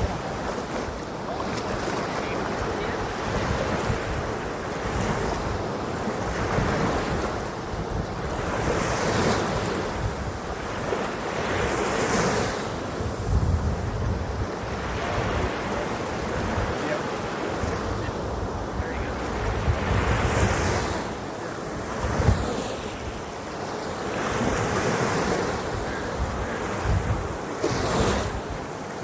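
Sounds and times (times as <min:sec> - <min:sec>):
wind buffeting microphone: 0:00.0 - 0:28.8
surf washing up beach: 0:00.0 - 0:29.0.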